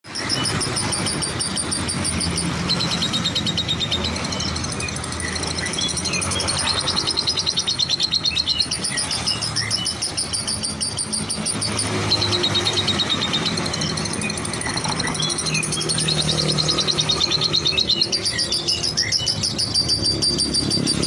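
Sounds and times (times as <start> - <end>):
lovebird chattering trills: 0.1 - 21.0.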